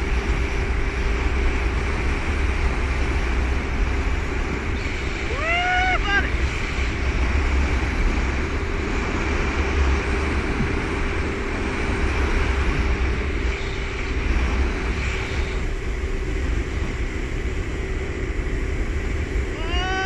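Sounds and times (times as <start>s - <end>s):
low steady hum: 0.0s - 20.0s
water hissing under wakeboard: 0.0s - 20.0s
wind buffeting microphone: 0.0s - 20.0s.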